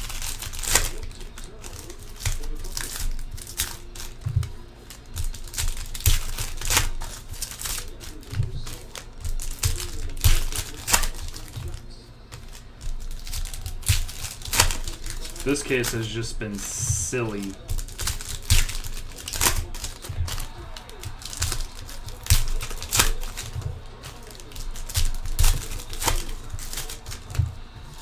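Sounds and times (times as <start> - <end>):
plastic wrappers tearing and crinkling: 0.0 - 28.0.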